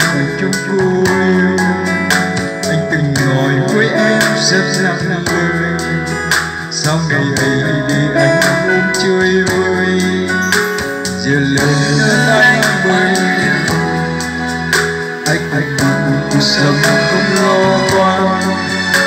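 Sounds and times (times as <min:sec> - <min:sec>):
music with steady beat from speaker: 0:00.0 - 0:19.0.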